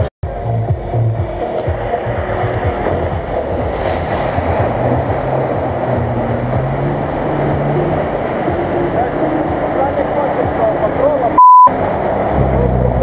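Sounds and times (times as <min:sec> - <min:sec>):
engine running hard: 0:00.0 - 0:13.0
muddy water splashing: 0:01.4 - 0:13.0.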